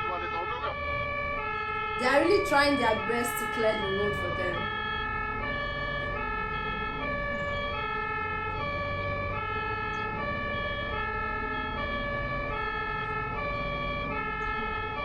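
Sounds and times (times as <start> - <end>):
low traffic rumble: 0.0 - 15.0
two-tone siren: 0.0 - 15.0.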